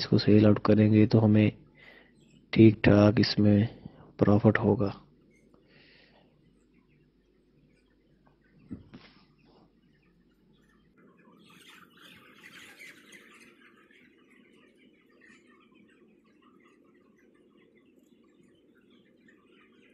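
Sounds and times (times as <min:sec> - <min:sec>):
chicks chirping and peeping: 0:00.0 - 0:19.9.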